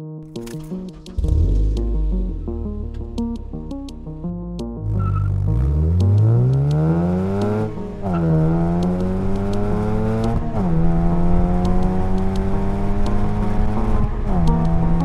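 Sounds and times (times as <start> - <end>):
car engine revving through gears: 1.0 - 3.4, 4.8 - 15.0.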